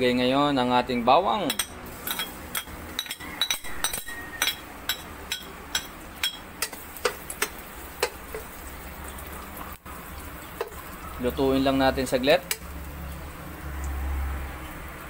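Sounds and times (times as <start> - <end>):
oil popping and crackling: 1.5 - 15.0
garlic sizzling in oil: 1.7 - 15.0.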